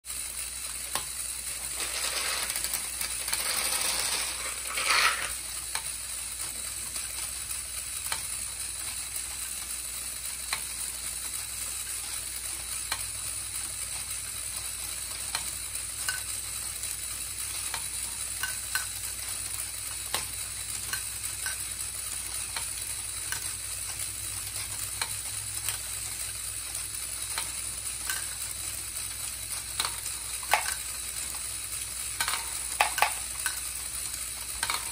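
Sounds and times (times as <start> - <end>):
motors whirring: 0.1 - 34.9
plastic balls clicking: 0.8 - 34.9
balls rattling together: 1.4 - 7.8, 8.4 - 34.9.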